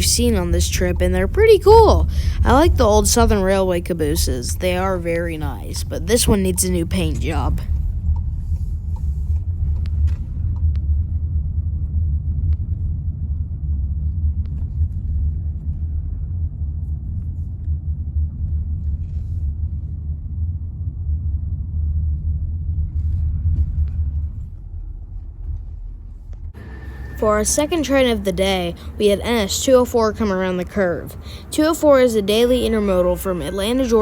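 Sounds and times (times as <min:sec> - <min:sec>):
low rumble of moving car: 0:00.0 - 0:34.0.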